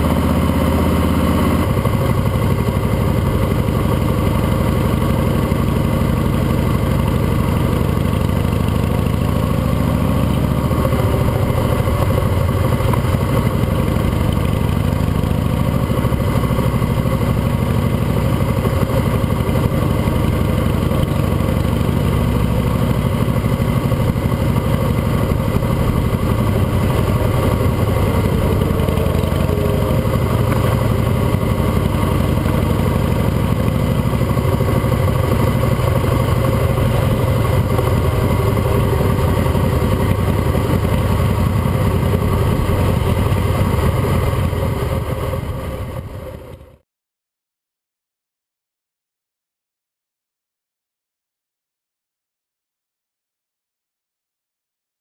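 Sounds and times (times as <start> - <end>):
motorcycle engine running: 0.0 - 46.8.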